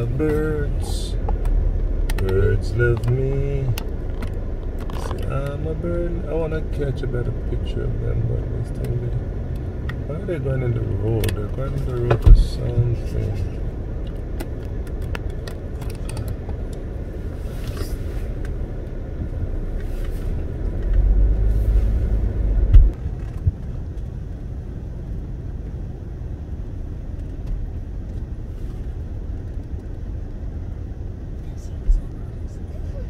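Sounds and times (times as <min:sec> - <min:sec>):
car rumble: 0:00.0 - 0:33.0.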